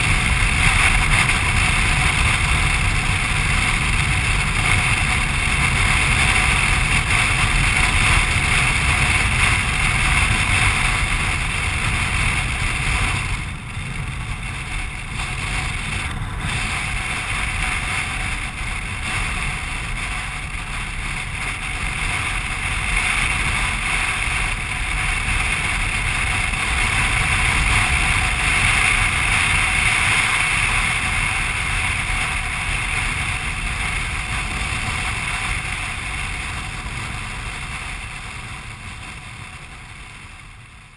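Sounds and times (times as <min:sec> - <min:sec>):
motorcycle engine and tyres: 0:00.0 - 0:40.9
wind rush: 0:00.0 - 0:40.9.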